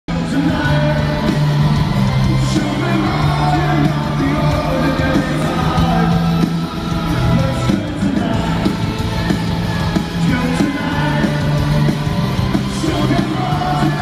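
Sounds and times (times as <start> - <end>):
man singing into a microphone: 0.1 - 1.6, 2.2 - 8.9, 10.2 - 11.9, 12.6 - 14.0
rock band playing loudly: 0.1 - 14.0
sustained bass notes: 0.1 - 14.0.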